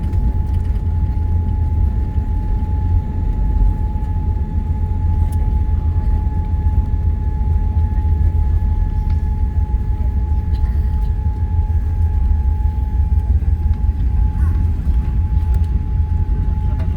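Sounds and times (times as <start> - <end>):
airliner rolling low rumble: 0.0 - 16.9
thin steady whine: 0.0 - 16.9.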